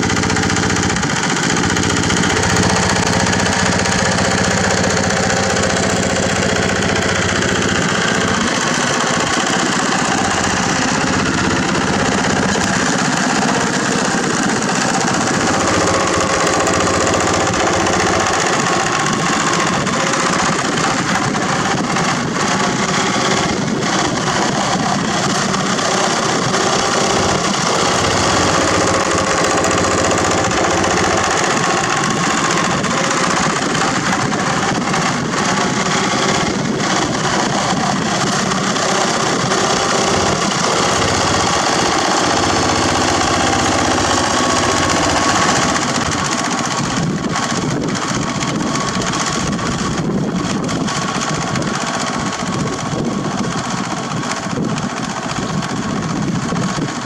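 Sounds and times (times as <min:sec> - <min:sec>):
diesel engine running: 0:00.0 - 0:57.0
rotary tiller churning soil: 0:00.0 - 0:57.0.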